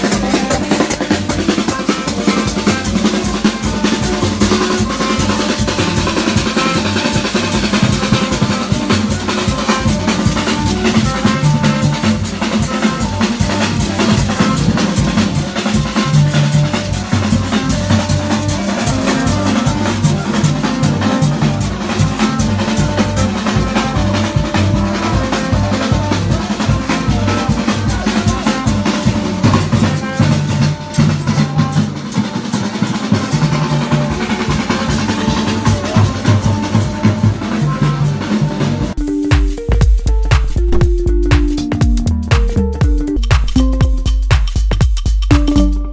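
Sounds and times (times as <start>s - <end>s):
barrel drums beaten fast: 0.0s - 45.9s
marching band playing: 0.0s - 45.9s.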